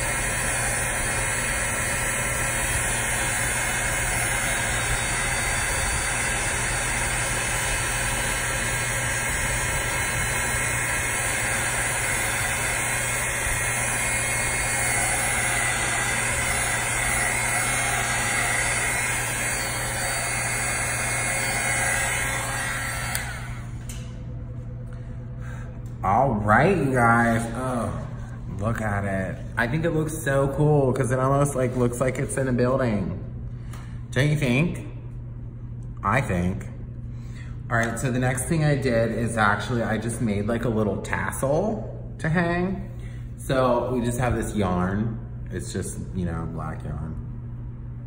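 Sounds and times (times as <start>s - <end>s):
heat tool fan humming: 0.0s - 48.0s.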